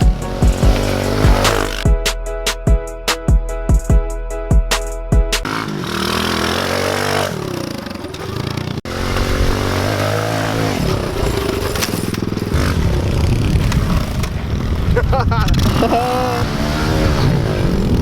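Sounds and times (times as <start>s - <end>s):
small motorbike engine revving: 0.0s - 1.9s, 5.4s - 18.0s.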